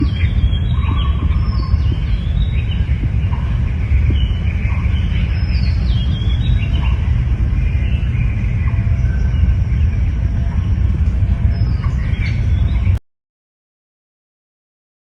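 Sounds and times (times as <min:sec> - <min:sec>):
birds chirping: 0:00.0 - 0:13.0
loud low rumble: 0:00.0 - 0:13.0.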